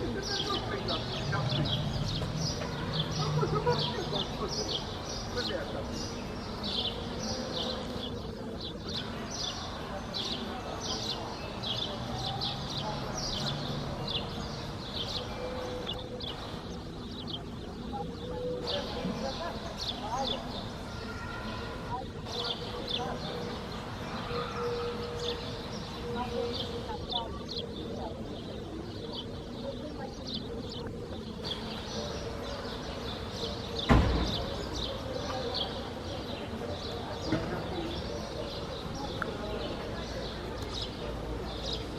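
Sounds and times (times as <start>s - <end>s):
low background noise: 0.0s - 41.9s
small birds chirping: 0.0s - 41.9s.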